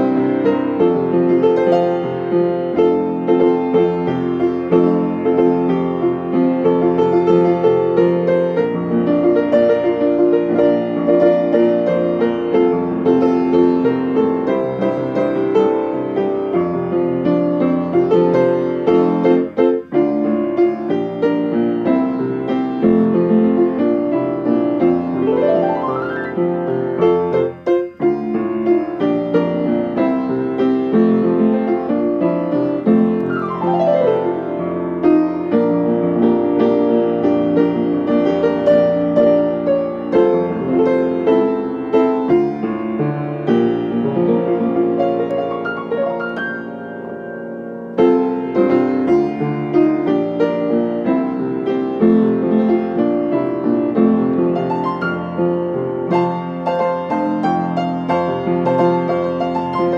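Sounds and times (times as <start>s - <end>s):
upright piano playing a hymn: 0.0s - 59.9s.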